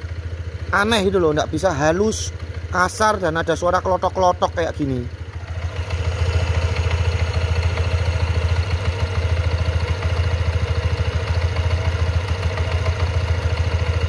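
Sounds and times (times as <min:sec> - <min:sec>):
scooter engine idling rough: 0:00.0 - 0:14.0.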